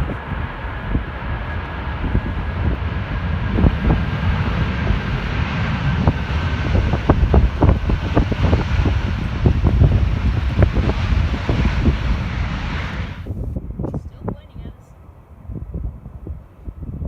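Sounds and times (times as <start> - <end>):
distant jet engine rush: 0.0 - 17.0
wind buffeting microphone: 0.0 - 17.0.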